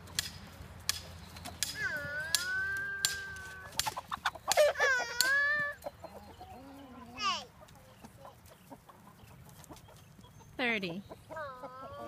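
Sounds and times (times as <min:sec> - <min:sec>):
chickens squawking: 0:01.4 - 0:12.0.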